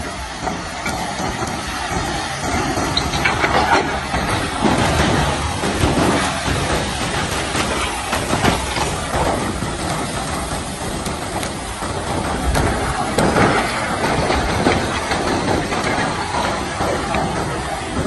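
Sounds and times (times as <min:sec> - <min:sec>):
lava crackling and rumbling: 0:00.0 - 0:18.0.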